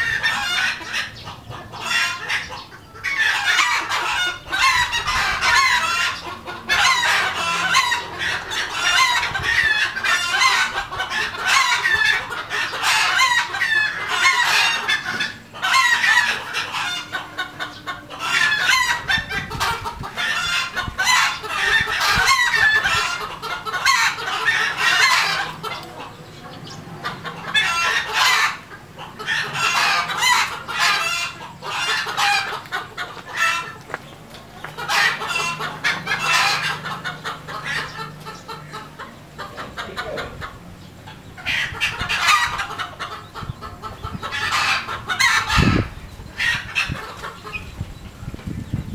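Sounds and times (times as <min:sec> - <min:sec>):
roosters crowing: 0:00.0 - 0:47.8
hens clucking: 0:00.0 - 0:48.9.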